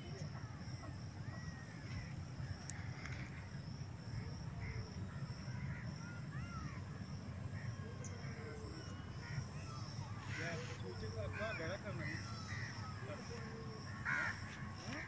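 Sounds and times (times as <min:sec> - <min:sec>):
birds chirping: 0:00.0 - 0:15.0
constant low rumble: 0:00.0 - 0:15.0.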